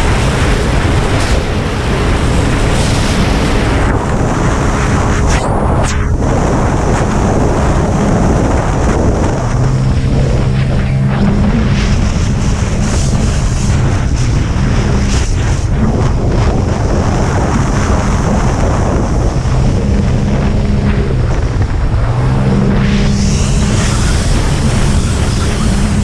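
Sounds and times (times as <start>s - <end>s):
jet skis racing over water: 0.0s - 26.0s
wind buffeting microphone: 0.0s - 26.0s.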